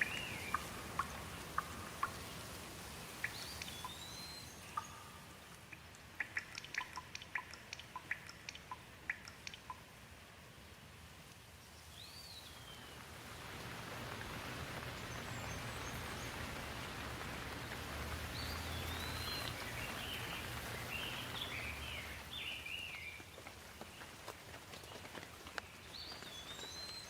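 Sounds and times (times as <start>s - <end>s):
bird chirping: 0.0s - 2.5s, 3.1s - 9.8s, 11.6s - 13.1s, 14.7s - 24.2s, 24.8s - 27.0s
rain falling on leaves: 0.0s - 27.0s.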